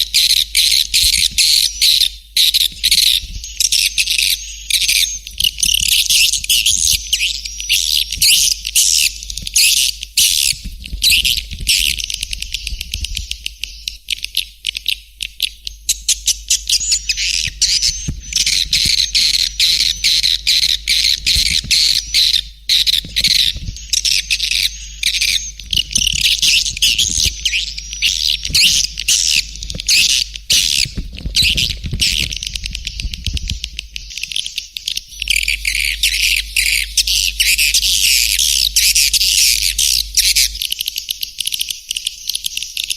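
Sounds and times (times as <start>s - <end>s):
swiftlets twittering: 0.0s - 14.0s, 15.9s - 41.1s.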